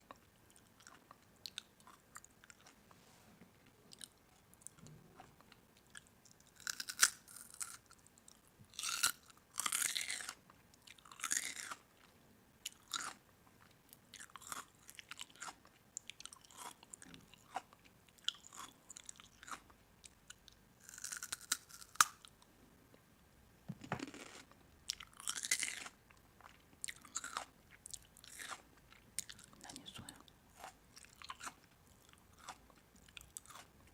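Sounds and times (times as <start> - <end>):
person chewing crisp food: 0.0 - 2.9, 3.9 - 22.4, 23.8 - 33.8.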